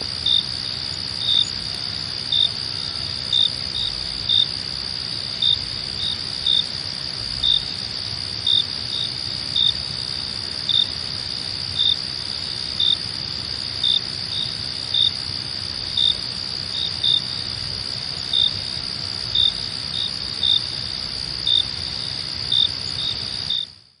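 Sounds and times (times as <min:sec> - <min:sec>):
cricket chirps: 0:00.0 - 0:24.0
crickets trilling: 0:00.0 - 0:24.0.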